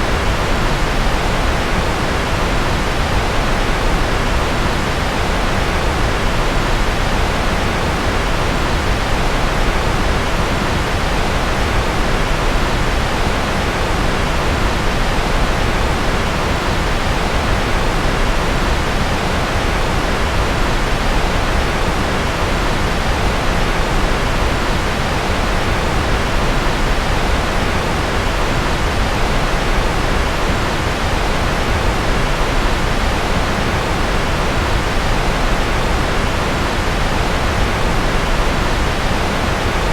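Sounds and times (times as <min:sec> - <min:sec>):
continuous rushing noise: 0:00.0 - 0:39.9.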